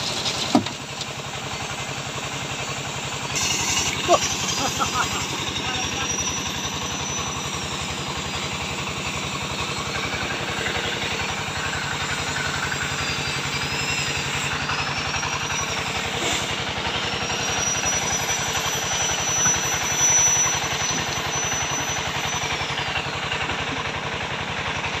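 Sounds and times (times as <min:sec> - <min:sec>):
small engine running: 0:00.0 - 0:25.0
thin high whine: 0:02.8 - 0:23.3.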